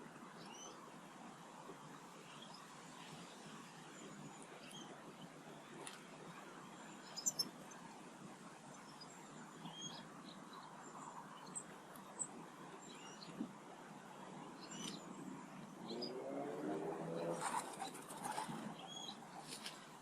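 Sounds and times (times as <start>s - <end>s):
small birds chirping: 2.2s - 7.9s, 8.6s - 20.0s.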